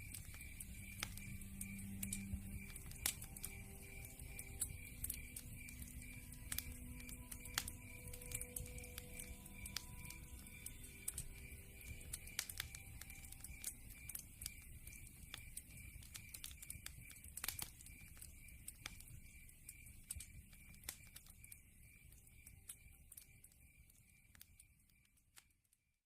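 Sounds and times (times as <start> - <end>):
log fire crackling and popping: 0.0 - 25.7.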